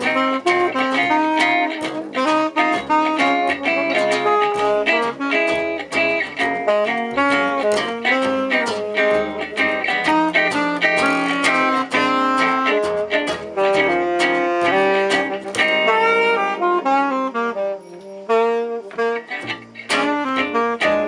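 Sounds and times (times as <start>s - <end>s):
guitar accompaniment: 0.0s - 21.0s
reed instrument melody: 0.0s - 21.0s.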